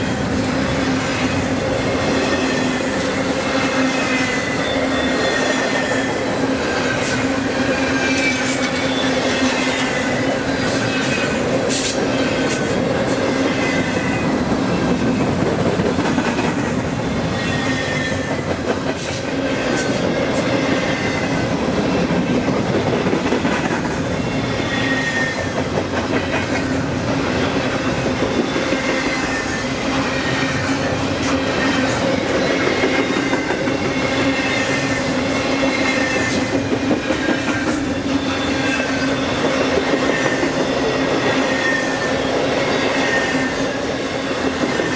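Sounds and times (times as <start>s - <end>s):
train wheels rumbling: 0.0s - 44.9s.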